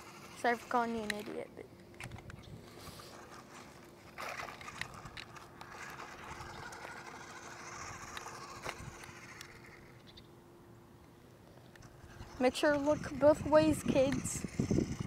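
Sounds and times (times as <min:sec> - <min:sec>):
scattered ticks: 0:00.0 - 0:02.5, 0:03.1 - 0:10.2, 0:11.7 - 0:15.0
toy car electric motor whirring: 0:00.0 - 0:10.2, 0:11.7 - 0:15.0
wheels on rough concrete: 0:00.0 - 0:15.0.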